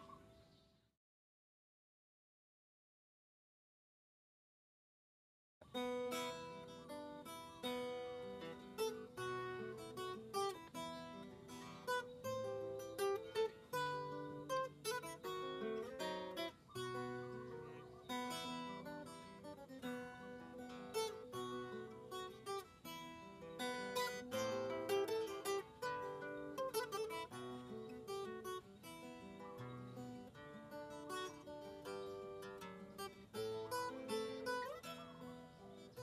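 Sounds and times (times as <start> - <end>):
acoustic guitar music: 5.6 - 36.0.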